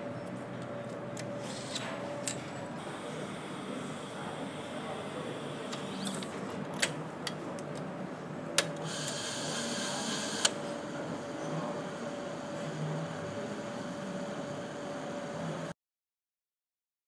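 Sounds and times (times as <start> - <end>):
steady machinery hum: 0.0 - 15.8.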